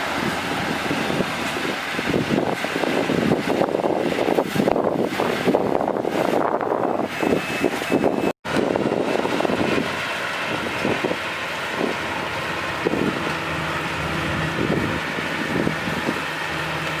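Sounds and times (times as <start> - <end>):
diesel engine running: 0.0 - 17.0
wind buffeting microphone: 0.0 - 17.0.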